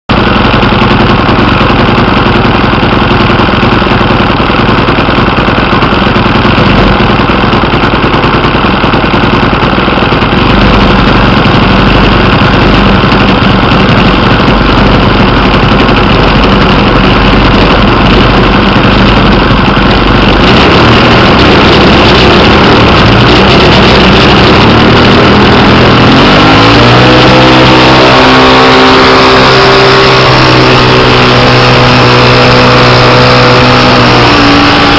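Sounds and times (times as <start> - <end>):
model plane engine and propeller: 0.1 - 34.9.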